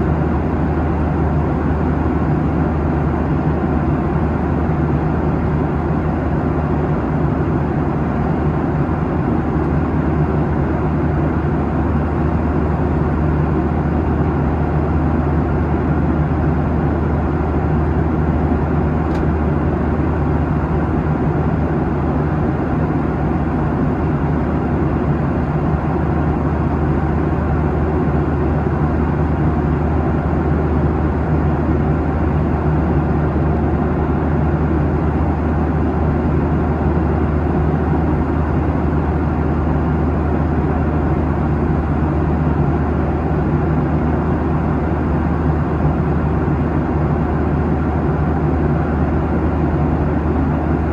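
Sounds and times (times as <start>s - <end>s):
jet engines droning: 0.0s - 50.9s.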